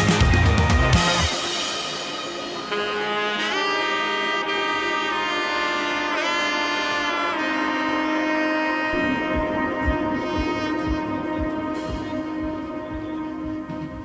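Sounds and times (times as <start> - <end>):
melody of long held notes: 0.0 - 14.0.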